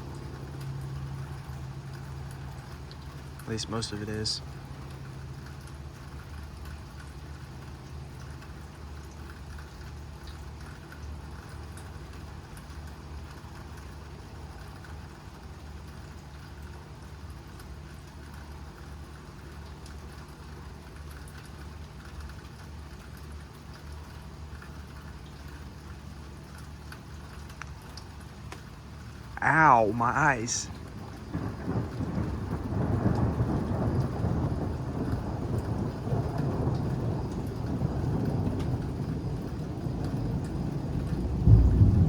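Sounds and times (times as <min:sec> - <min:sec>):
rain hiss: 0:00.0 - 0:42.0.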